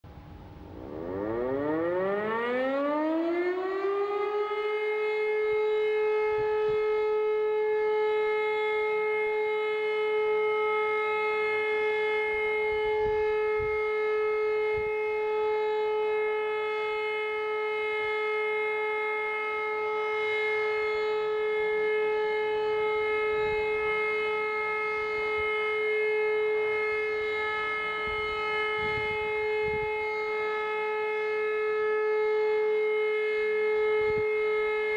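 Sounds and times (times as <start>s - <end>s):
electromechanical siren: 0.1s - 34.9s.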